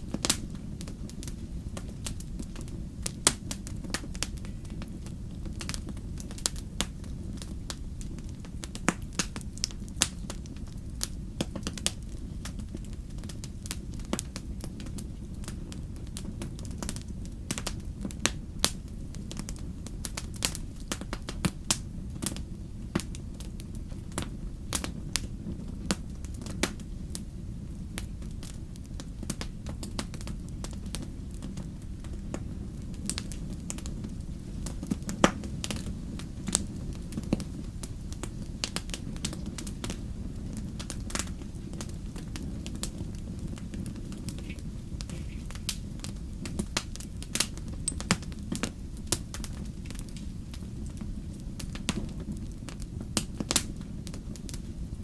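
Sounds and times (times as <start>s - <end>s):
fire popping and crackling: 0.0s - 55.0s
wood fire burning: 0.0s - 55.0s.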